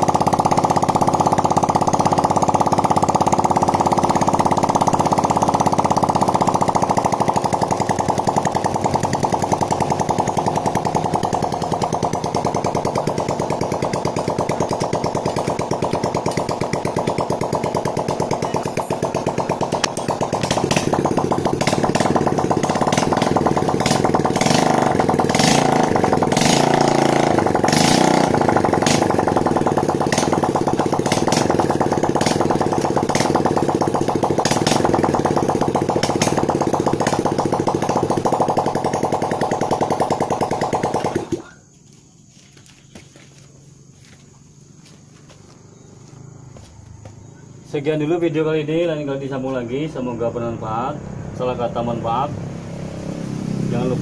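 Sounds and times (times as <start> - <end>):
motorcycle engine running: 0.0 - 41.7, 42.9 - 54.0.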